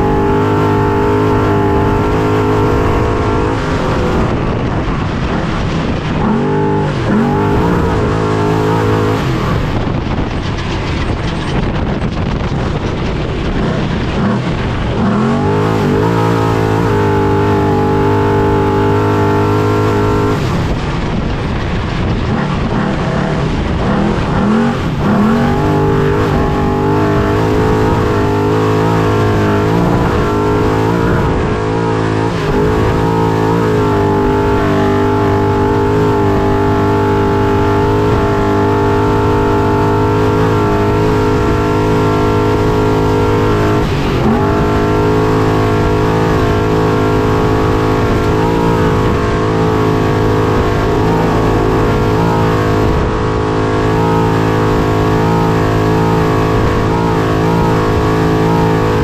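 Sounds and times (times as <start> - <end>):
steady rush of noise: 0.0 - 59.0
truck engine revving hard: 0.0 - 59.0.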